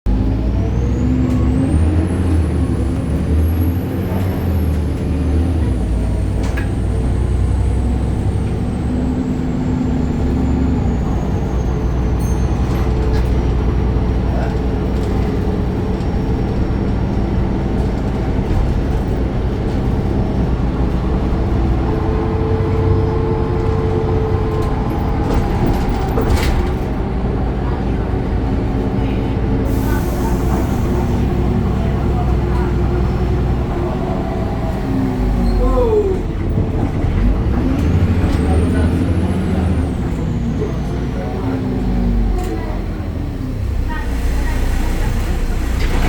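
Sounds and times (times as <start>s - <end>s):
bus diesel engine rumble: 0.1s - 46.0s.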